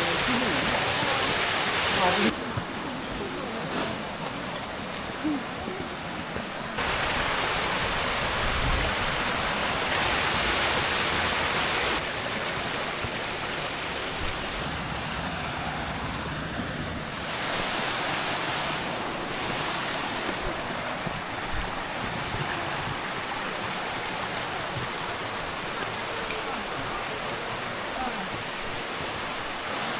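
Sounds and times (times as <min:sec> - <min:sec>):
rushing stream water: 0:00.0 - 0:29.9.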